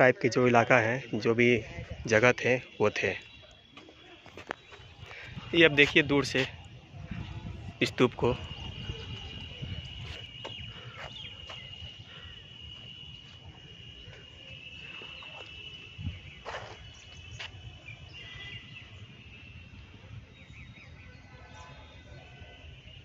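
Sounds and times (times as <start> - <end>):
insect drone and chirps: 0.0 - 23.0.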